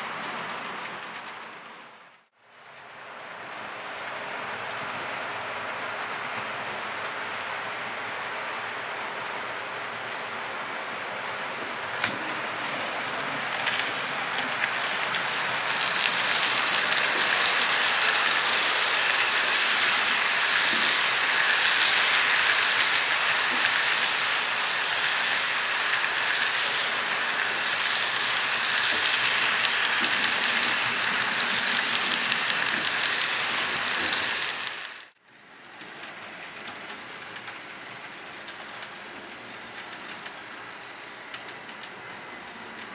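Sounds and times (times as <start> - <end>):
model train wheels rattling on track: 0.0 - 3.0, 11.2 - 42.9.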